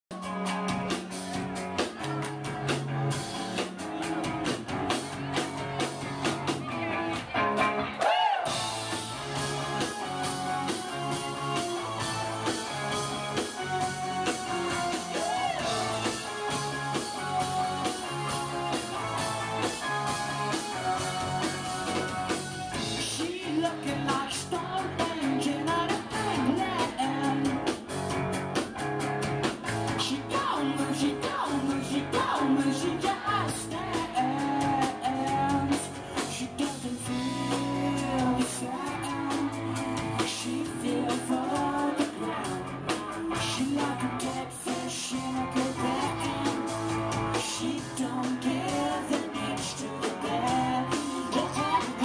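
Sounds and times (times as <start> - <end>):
live rock band playing: 0.1 - 52.0
person singing: 7.8 - 27.8, 29.9 - 52.0.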